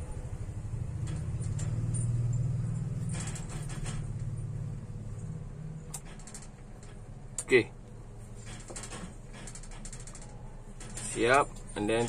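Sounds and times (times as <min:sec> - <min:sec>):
low motor-like hum: 0:00.0 - 0:12.0.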